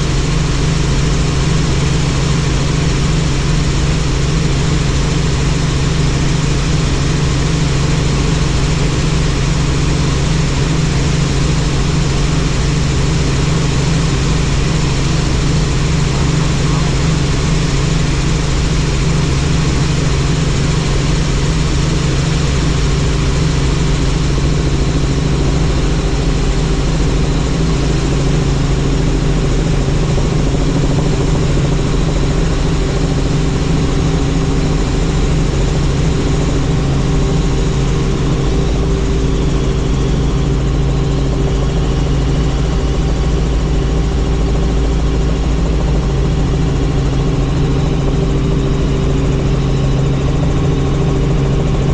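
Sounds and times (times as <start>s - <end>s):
helicopter engine and rotor: 0.0s - 51.9s.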